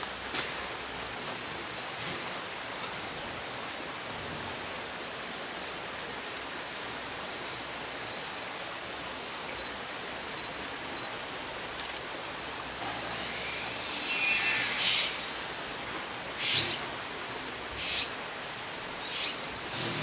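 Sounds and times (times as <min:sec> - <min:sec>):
forest ambience hiss: 0:00.0 - 0:20.0.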